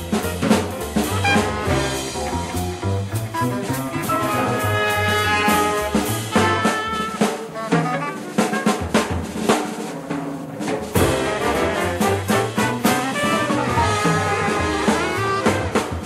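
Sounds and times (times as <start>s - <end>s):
jazz band playing: 0.0s - 16.0s
snare and bass drum hits: 0.0s - 16.0s.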